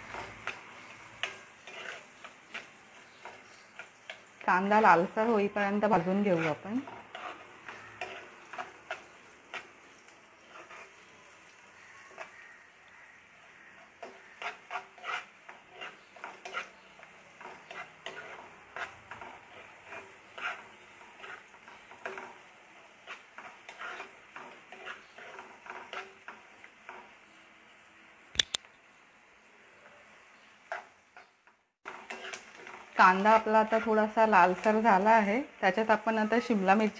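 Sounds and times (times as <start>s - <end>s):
spoon scraping and tapping pan: 0.0s - 12.5s, 13.7s - 27.1s, 30.7s - 34.8s
onions sizzling in oil: 0.0s - 36.9s.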